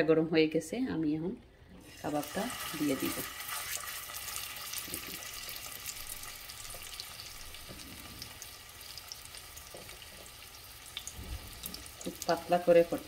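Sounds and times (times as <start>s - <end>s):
meat patty sizzling in oil: 1.8s - 13.0s.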